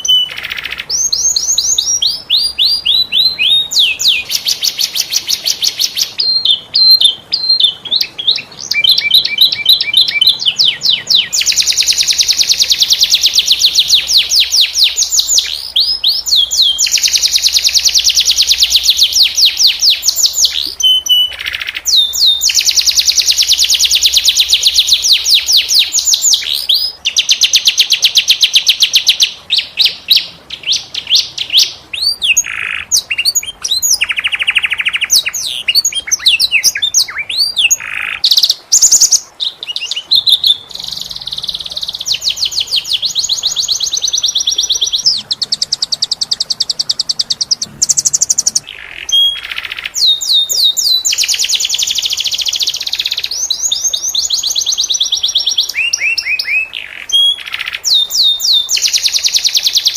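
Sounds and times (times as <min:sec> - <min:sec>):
canary trilling: 0:00.0 - 0:59.9.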